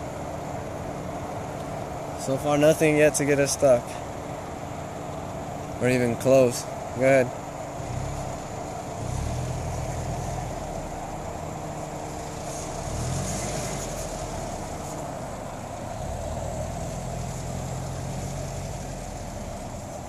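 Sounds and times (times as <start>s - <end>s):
car engine running at low revs: 0.0s - 20.0s
tyres and body rumbling: 0.0s - 20.0s.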